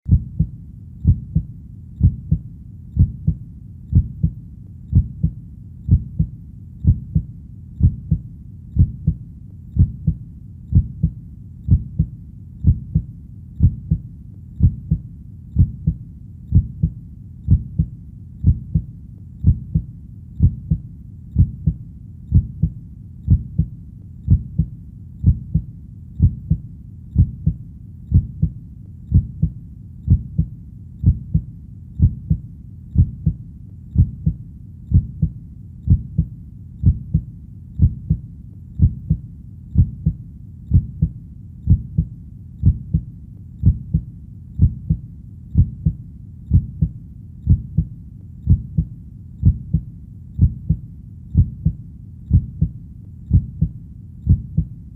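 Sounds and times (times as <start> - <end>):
heartbeat thumps: 0.1 - 54.8.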